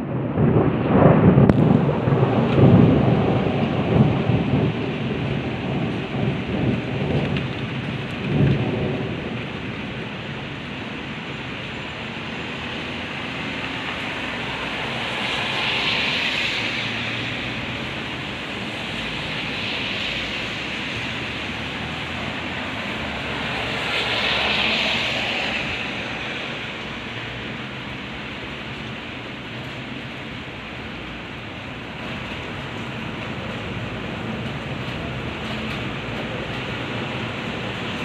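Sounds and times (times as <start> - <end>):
heavy rain hissing: 1.3 - 38.0.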